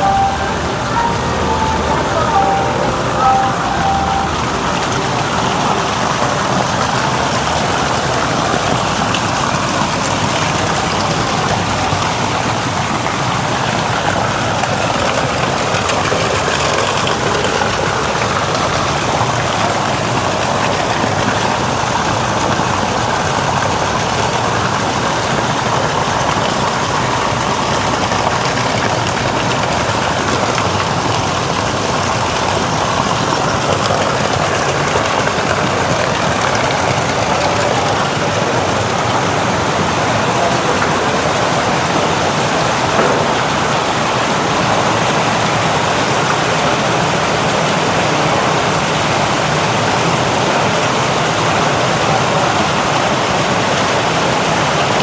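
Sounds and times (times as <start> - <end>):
rush of falling water: 0.0 - 55.0.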